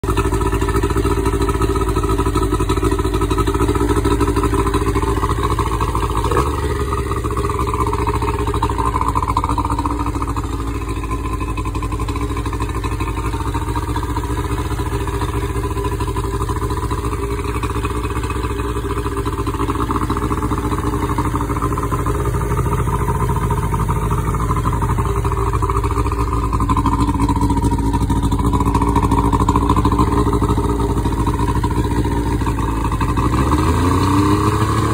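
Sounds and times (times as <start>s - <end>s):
outboard engine running: 0.0s - 34.9s.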